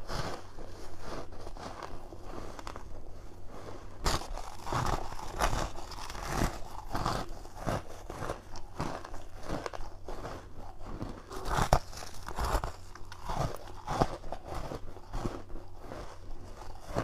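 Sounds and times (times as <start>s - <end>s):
ice crunching between teeth: 0.0s - 17.0s.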